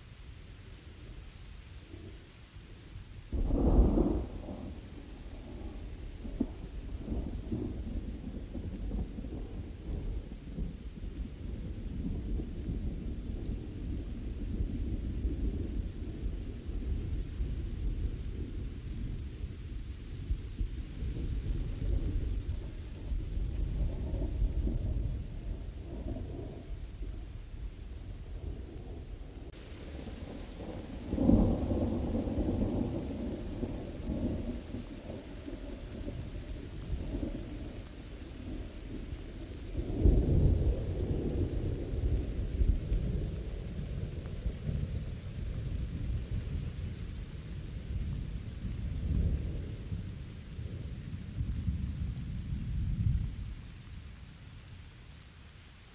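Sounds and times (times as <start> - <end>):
steady rain: 0.0 - 55.9
thunder clap and rumble: 3.3 - 55.6.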